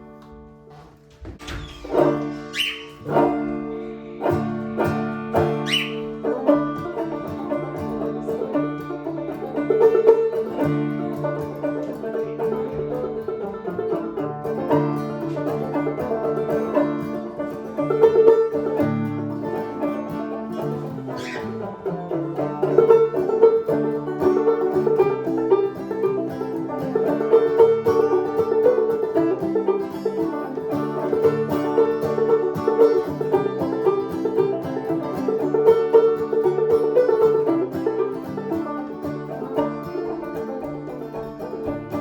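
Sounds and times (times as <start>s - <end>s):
instrumental band with plucked strings: 0.0s - 42.0s.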